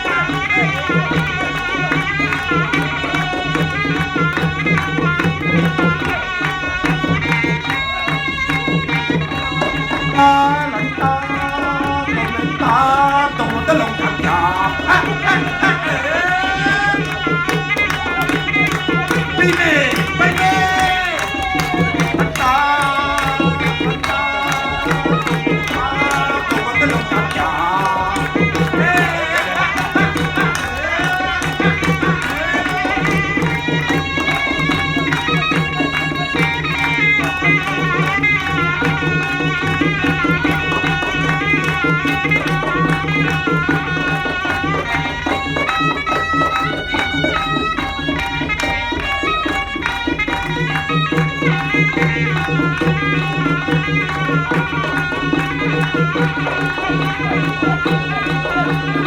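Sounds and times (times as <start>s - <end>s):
hand drums beating: 0.0s - 59.0s.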